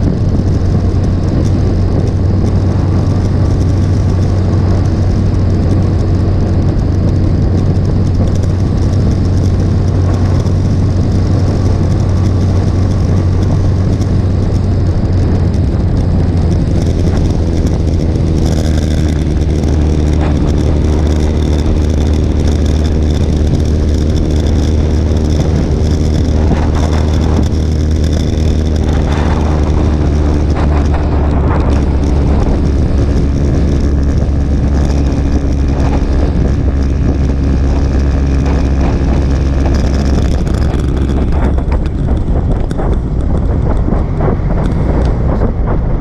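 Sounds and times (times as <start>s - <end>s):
motorcycle engine cruising: 0.0s - 46.0s
wind rushing over microphone: 0.0s - 46.0s.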